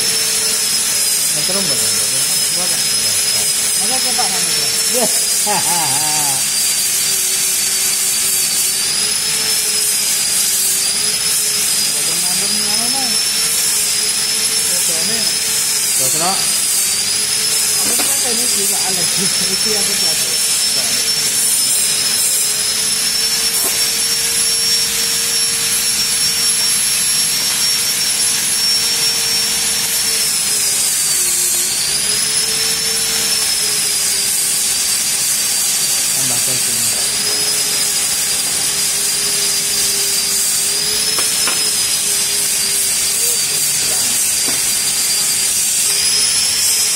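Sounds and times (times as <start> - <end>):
welder hiss and high whine: 0.0 - 46.9.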